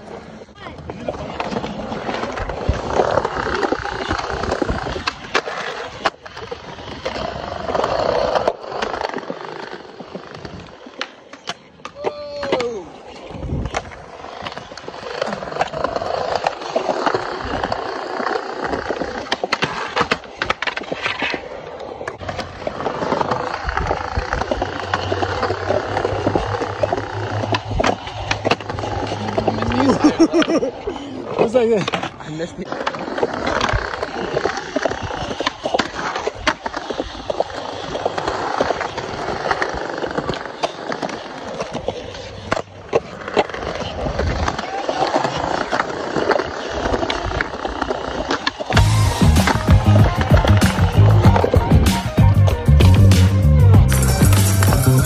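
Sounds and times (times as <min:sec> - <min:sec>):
skateboard wheels rolling on concrete: 0:00.0 - 0:55.0
skateboard clacks and knocks: 0:00.5 - 0:55.0.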